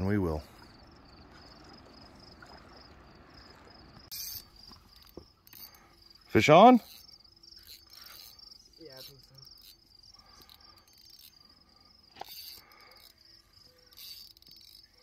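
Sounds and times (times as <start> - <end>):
faint crickets chirping: 0.0 - 15.0.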